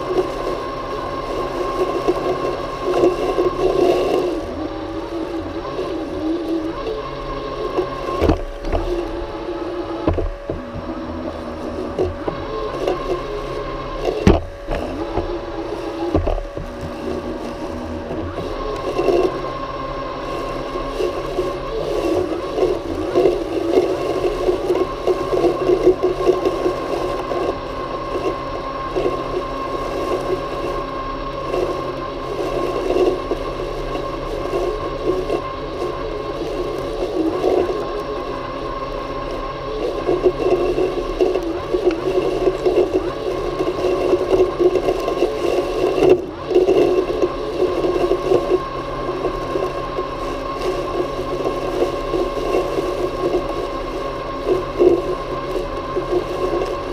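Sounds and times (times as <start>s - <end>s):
electric motor whine: 0.0s - 56.9s
mower rustling scrape: 0.0s - 56.9s.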